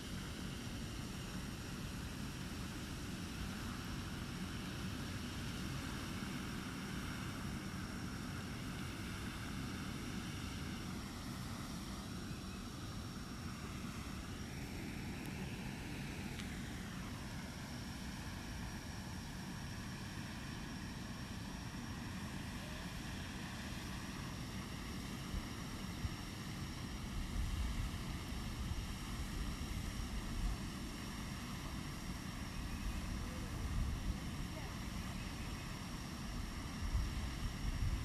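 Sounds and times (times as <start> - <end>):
distant engine drone: 0.0 - 37.8
faint high hum: 0.0 - 38.0.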